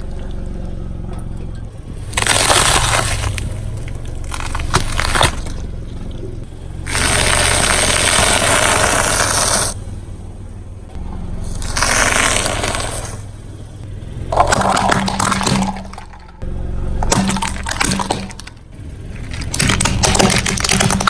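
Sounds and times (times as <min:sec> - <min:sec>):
car tyre crushing objects: 0:00.0 - 0:21.0
low engine hum: 0:00.0 - 0:21.0.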